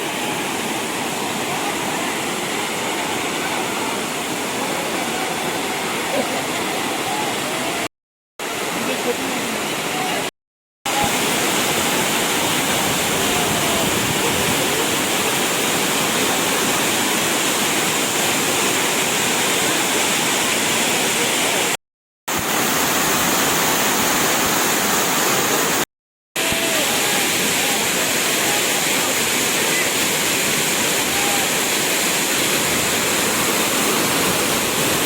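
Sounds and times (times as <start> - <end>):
waterfall rushing: 0.0 - 10.3, 10.9 - 25.8, 26.4 - 35.0.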